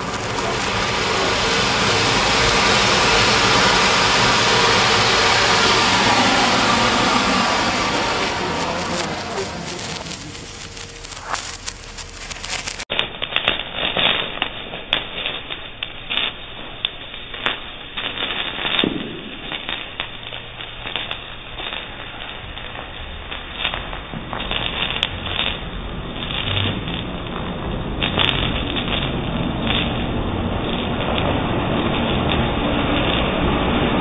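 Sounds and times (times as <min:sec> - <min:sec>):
firework crackles and pops: 0:00.0 - 0:34.0
firework fountain hissing sparks: 0:00.0 - 0:34.0.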